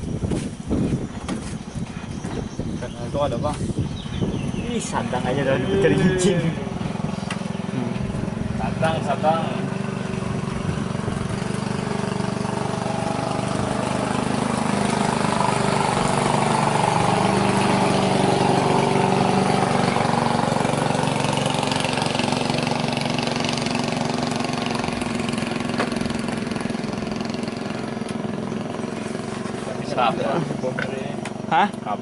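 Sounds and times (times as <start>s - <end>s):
small boat engine passing: 1.5s - 32.0s.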